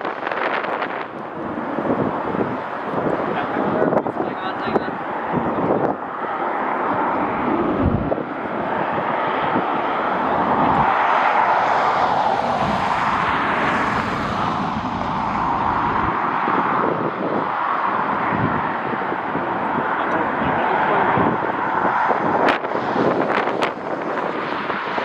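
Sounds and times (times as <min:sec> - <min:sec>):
jet engine roar: 0:00.0 - 0:25.0
wind buffeting microphone: 0:00.0 - 0:25.0.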